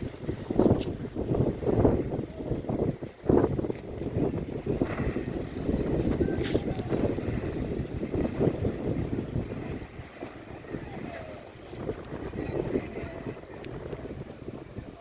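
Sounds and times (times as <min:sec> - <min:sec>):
wind buffeting microphone: 0:00.0 - 0:15.0
motorboat engines running: 0:01.6 - 0:15.0.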